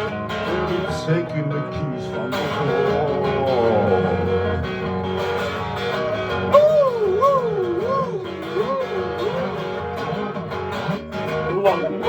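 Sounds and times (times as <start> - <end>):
strummed acoustic guitar: 0.0 - 12.0
wordless vocal melody: 0.3 - 10.5.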